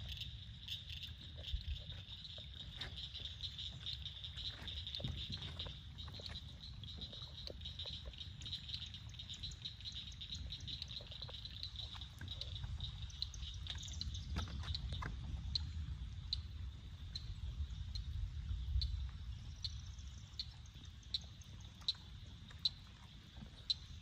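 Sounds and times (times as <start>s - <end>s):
chorus of calling swamp animals: 0.0s - 24.0s.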